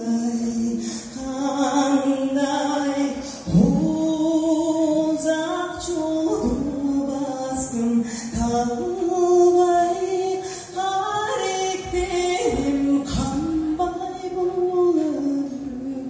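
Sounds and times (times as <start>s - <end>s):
person singing through loudspeakers: 0.0s - 16.0s.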